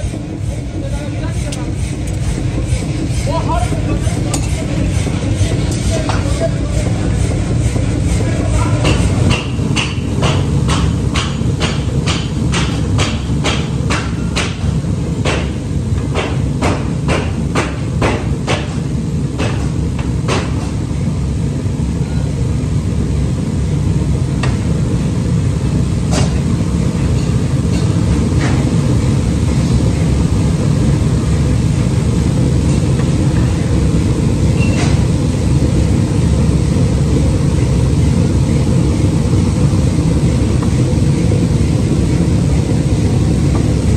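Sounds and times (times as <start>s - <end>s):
forge fire under blower rumbling: 0.0s - 43.9s.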